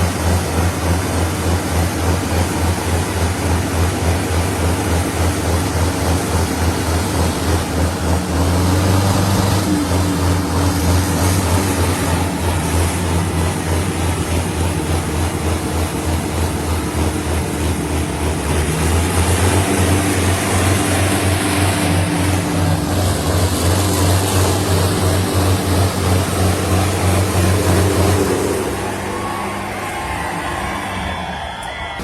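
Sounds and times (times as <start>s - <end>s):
tractor diesel engines running hard: 0.0s - 32.0s.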